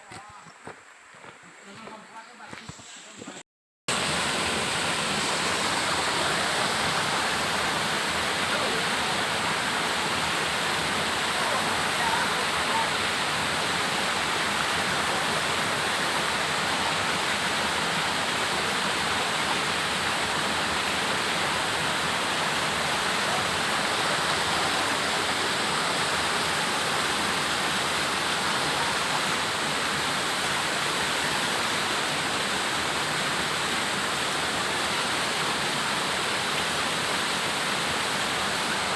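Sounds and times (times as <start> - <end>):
waterfall rushing: 3.9 - 38.9.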